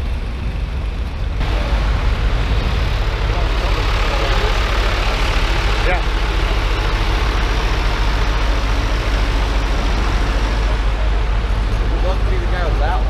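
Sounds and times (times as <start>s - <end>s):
tractor engines rumbling: 0.0s - 13.0s.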